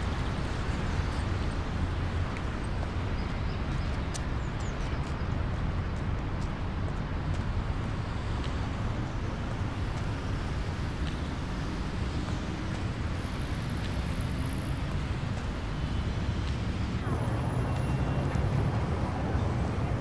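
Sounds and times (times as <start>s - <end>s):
rumble of passing vehicles: 0.0s - 20.0s.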